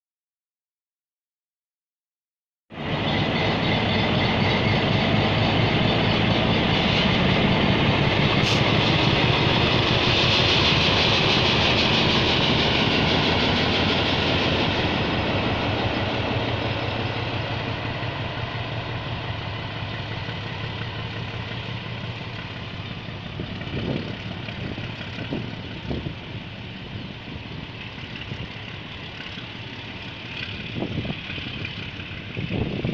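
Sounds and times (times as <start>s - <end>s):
diesel locomotive running: 2.7s - 32.9s
train coaches rolling past: 2.7s - 32.9s.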